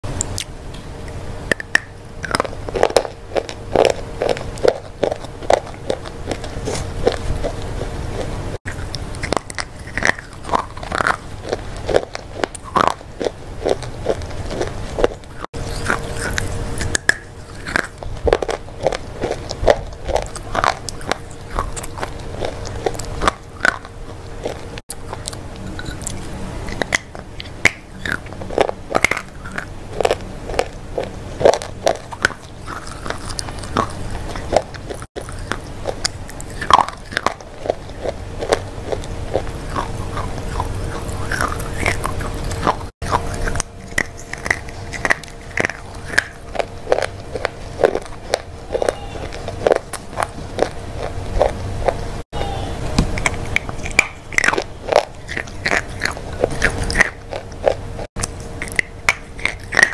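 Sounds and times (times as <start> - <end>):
quiet chewing: 0.2 - 52.1, 53.1 - 59.9
chocolate crunching: 1.5 - 52.0, 53.2 - 59.9.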